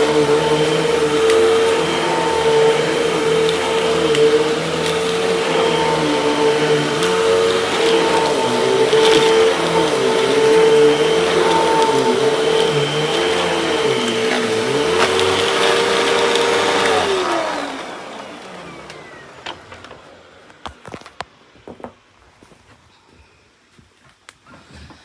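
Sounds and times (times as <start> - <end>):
vacuum cleaner motor whine: 0.0 - 21.6.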